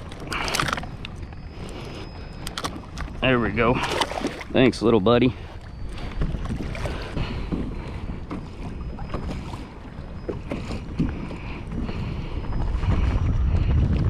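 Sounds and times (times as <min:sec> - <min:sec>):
water splashing against kayak hull: 0:00.0 - 0:14.0
wind buffeting microphone: 0:00.0 - 0:14.0.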